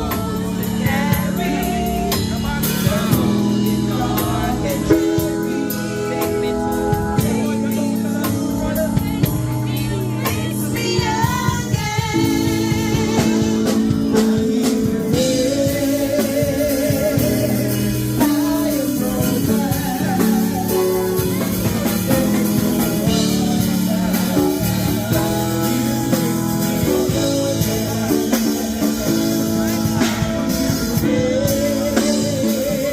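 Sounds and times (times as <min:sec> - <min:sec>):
band with drums and guitar: 0:00.0 - 0:32.9
person singing with vibrato: 0:00.0 - 0:32.9.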